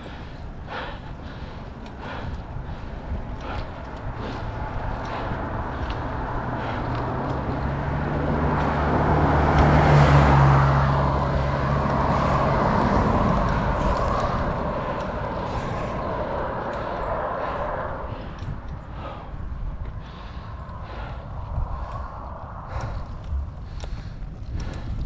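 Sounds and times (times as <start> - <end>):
steady traffic noise: 0.0 - 25.0
vehicle engine hum passing: 0.0 - 25.0.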